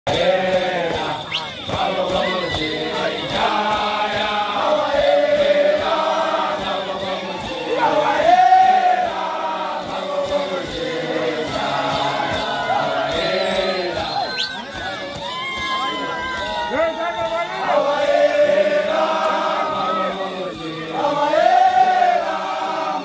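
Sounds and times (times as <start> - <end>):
group singing and chanting: 0.1 - 23.0.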